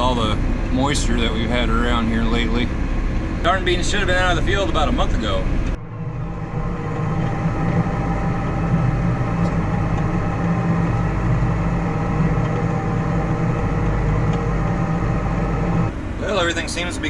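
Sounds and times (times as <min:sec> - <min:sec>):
tractor diesel engine humming: 0:00.0 - 0:17.0.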